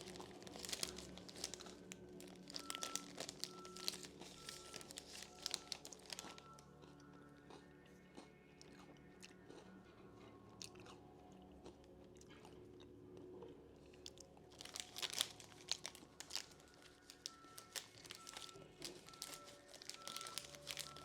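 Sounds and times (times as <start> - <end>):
crunchy biscuit chewing: 0.0 - 21.0.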